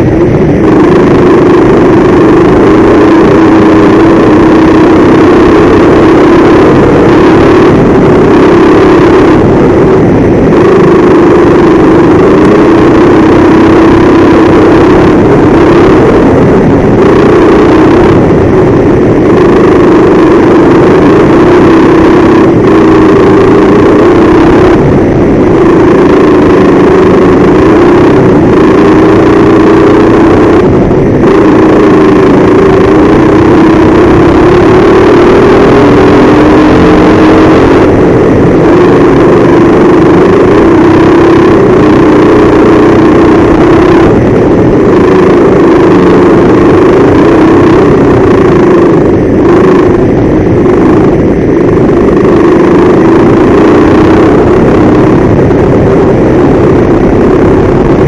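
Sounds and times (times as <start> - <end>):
go-kart engine: 0.0 - 58.0.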